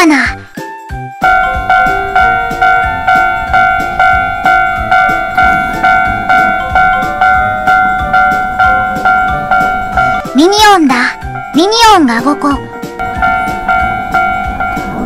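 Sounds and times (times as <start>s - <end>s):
background music: 0.0s - 15.0s
railroad crossing bell ringing: 1.2s - 15.0s.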